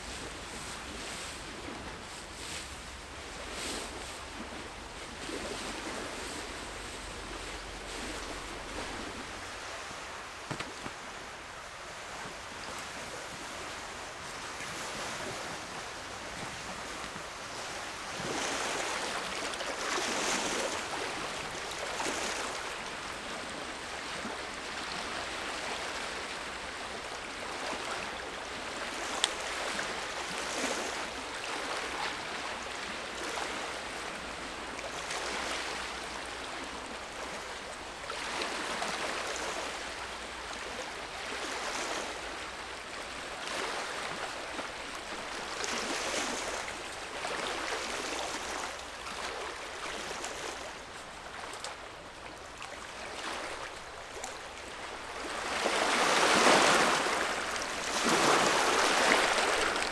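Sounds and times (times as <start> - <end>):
lake waves lapping at shore: 0.0 - 59.9.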